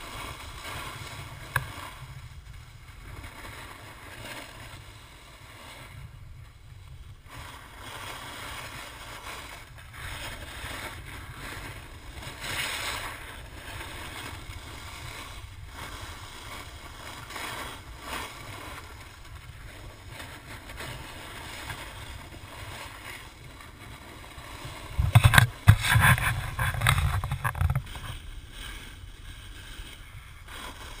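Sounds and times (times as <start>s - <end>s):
snowboard scraping on snow: 0.0s - 31.0s
wind rumbling on microphone: 0.0s - 31.0s.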